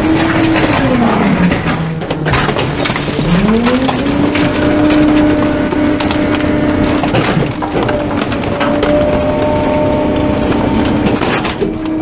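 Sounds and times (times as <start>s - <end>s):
garbage truck engine humming: 0.0s - 12.0s
wood and furniture cracking: 0.0s - 12.0s.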